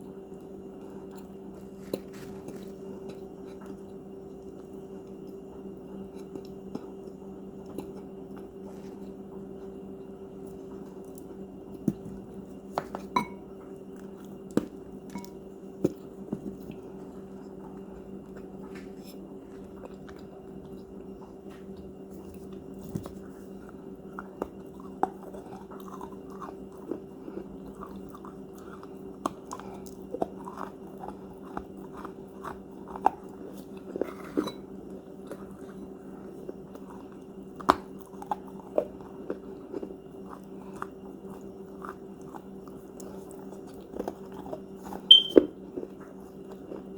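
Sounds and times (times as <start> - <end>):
cookies crunching being chewed: 0.0 - 46.9
steady low hum: 0.0 - 46.9.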